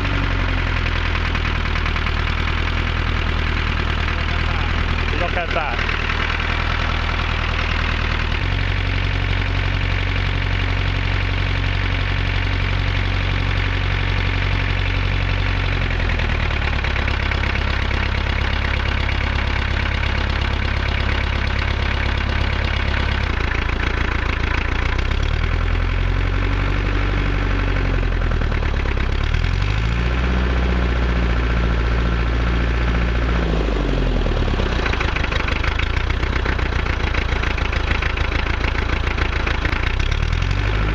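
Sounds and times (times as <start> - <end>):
tractor diesel engine revving: 0.0 - 40.9.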